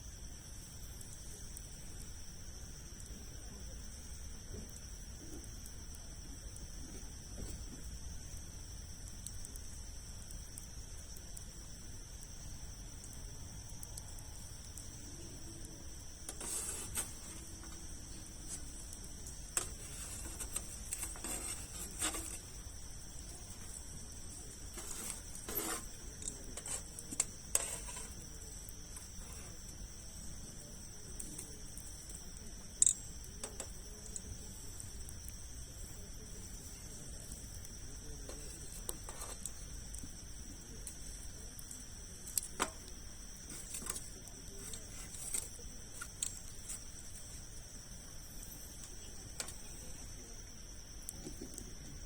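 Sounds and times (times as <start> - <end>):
campfire crackling and popping: 0.4 - 49.9.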